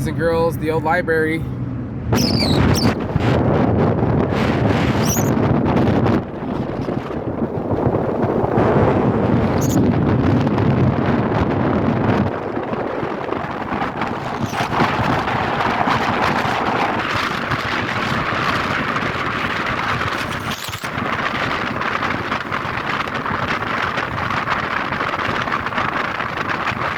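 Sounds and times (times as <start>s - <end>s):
heavy low rumble: 0.0s - 26.5s
highway traffic noise: 0.0s - 26.9s
wind rushing over microphone: 0.0s - 26.9s.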